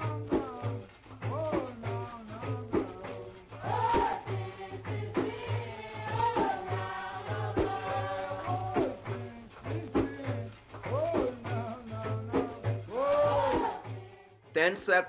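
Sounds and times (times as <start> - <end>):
person singing over a beat: 0.0 - 15.0.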